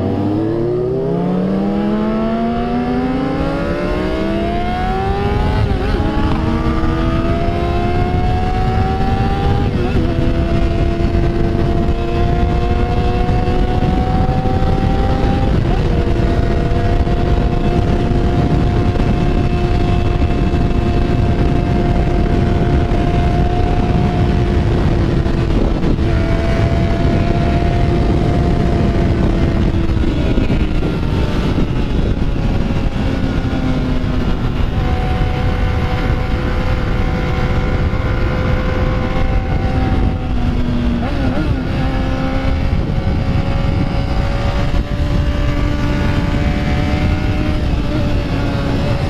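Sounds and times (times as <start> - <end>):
motorcycle engine running: 0.0 - 49.0
wind noise on microphone: 0.0 - 49.0.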